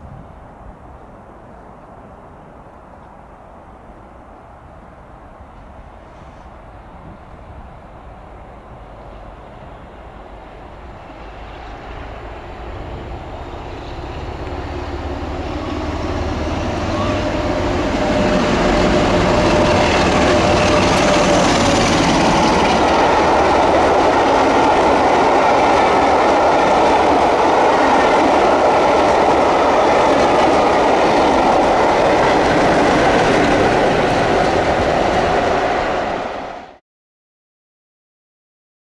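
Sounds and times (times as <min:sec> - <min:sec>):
diesel train passing: 0:03.4 - 0:36.8.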